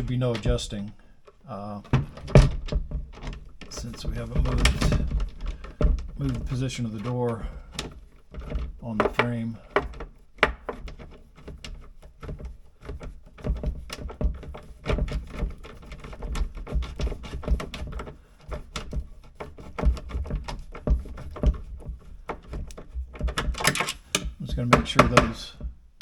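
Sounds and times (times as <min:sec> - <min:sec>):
hands fitting cabinet hinge: 0:00.0 - 0:26.0.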